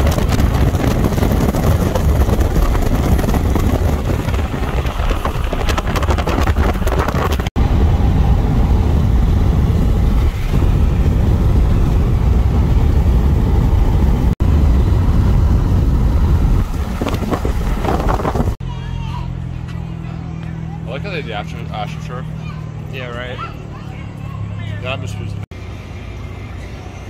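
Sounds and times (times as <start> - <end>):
road and wind noise rumble: 0.0 - 27.0.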